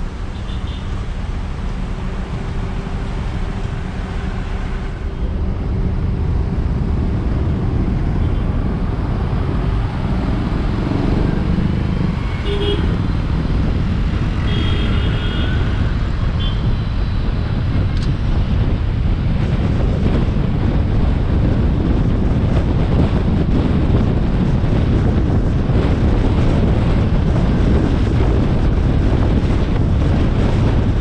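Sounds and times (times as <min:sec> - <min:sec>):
car road noise rumble: 0:00.0 - 0:31.0.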